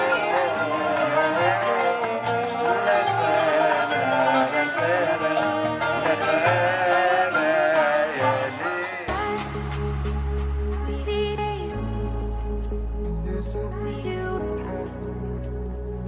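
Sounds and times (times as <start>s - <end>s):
music with wavering melody: 0.0s - 16.0s.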